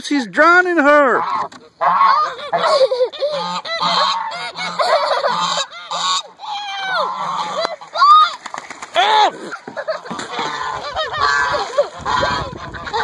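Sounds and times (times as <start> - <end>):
geese honking: 1.0 - 8.2, 9.0 - 13.0.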